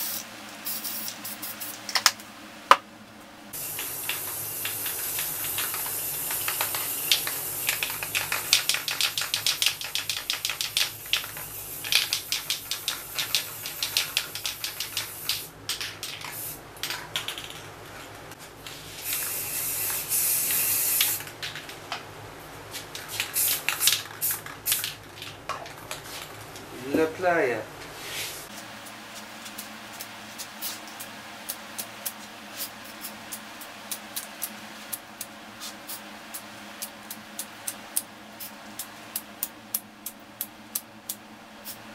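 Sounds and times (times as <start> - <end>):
spray paint can hissing: 0.0 - 2.0, 3.5 - 17.6, 18.9 - 21.3, 23.0 - 25.3, 28.4 - 41.9.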